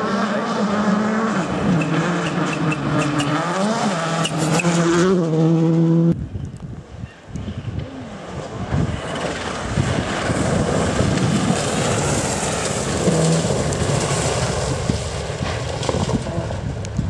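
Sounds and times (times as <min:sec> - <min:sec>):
distant engine: 0:00.0 - 0:06.2, 0:07.7 - 0:17.0
rally car engine at high revs: 0:00.0 - 0:06.2, 0:08.0 - 0:16.9.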